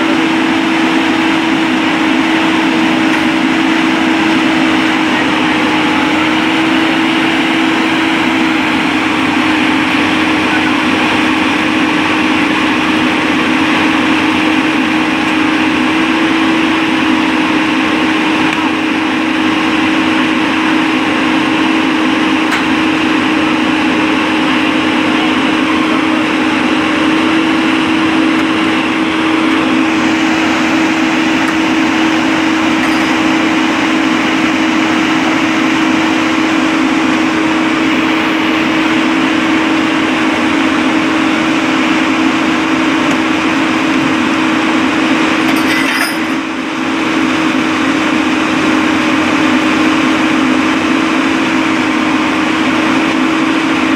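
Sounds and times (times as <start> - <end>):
heavy machine engine humming: 0.0 - 53.9.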